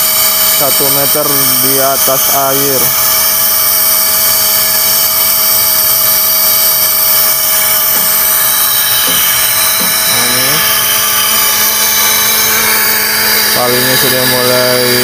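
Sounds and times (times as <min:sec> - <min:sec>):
air hissing: 0:00.0 - 0:15.0
winch high-pitched whine: 0:00.0 - 0:15.0.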